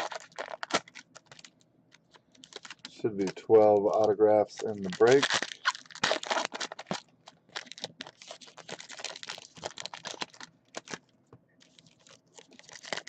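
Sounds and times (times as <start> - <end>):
wrapper rustling: 0.0 - 13.0.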